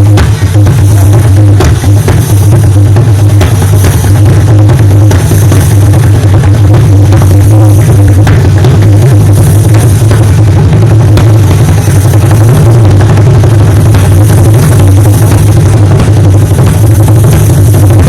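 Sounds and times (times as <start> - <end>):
hand drum played fast: 0.0 - 18.0.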